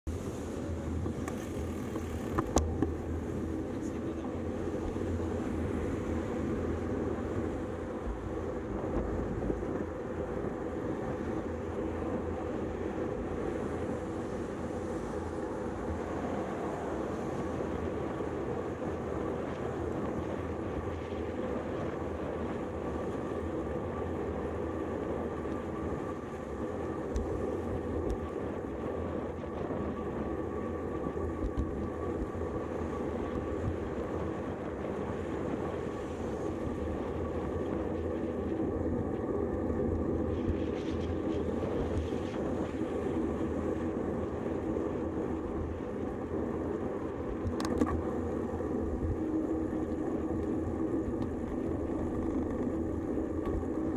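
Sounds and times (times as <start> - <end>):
bike tyres rolling on asphalt: 0.1 - 53.9
wind noise: 0.1 - 53.9.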